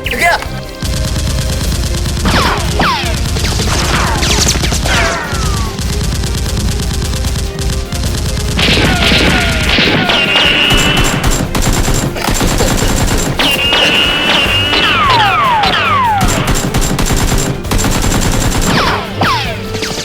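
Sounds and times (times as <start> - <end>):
background music: 0.0 - 20.0
automatic gunfire effects: 0.8 - 20.0.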